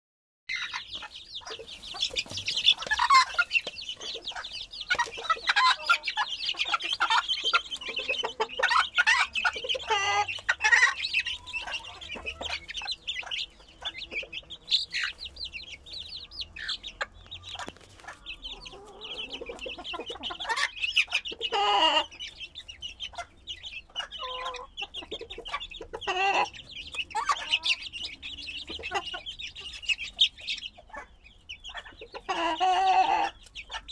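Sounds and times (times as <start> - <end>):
chicks peeping: 0.5 - 33.9
hen clucking: 0.5 - 33.9.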